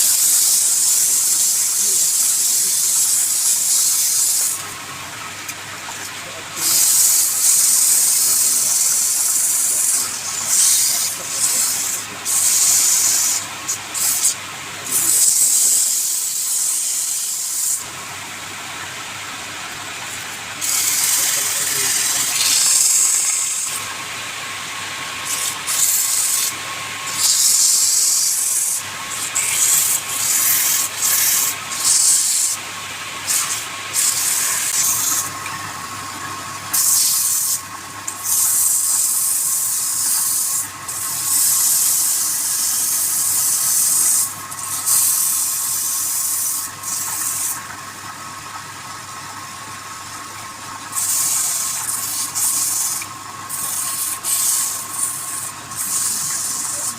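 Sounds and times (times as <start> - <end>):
wood lathe humming: 0.0 - 18.9, 20.0 - 47.7, 50.9 - 56.9
tool hissing on spinning wood: 0.0 - 56.9.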